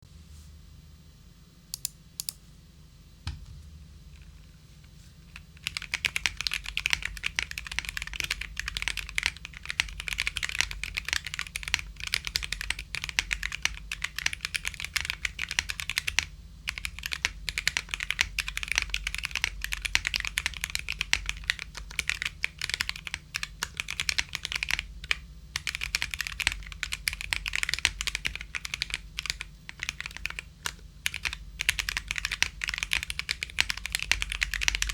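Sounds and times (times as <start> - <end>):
mechanical keyboard typing: 5.3 - 34.9.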